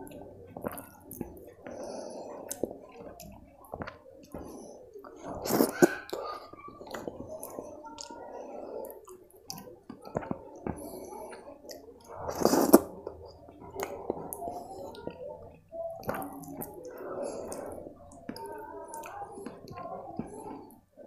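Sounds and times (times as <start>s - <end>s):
wet slurping: 0.0s - 20.8s
fingers squishing soft rice: 0.0s - 21.0s.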